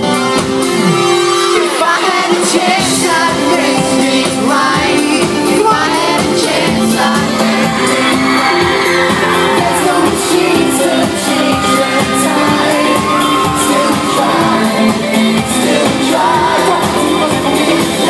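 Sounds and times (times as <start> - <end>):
amplified pop music: 0.0 - 18.0
fans shouting and cheering: 0.0 - 18.0
man singing: 1.5 - 18.0.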